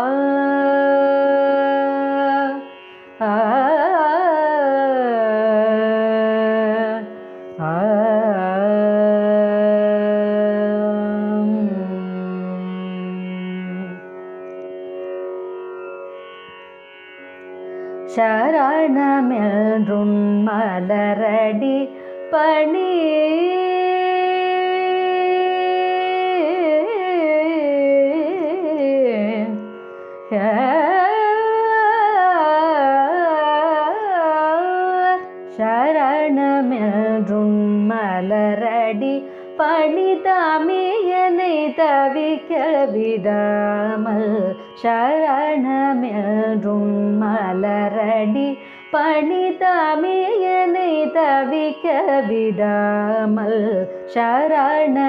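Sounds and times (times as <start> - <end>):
woman singing: 0.0 - 14.0, 18.1 - 55.0.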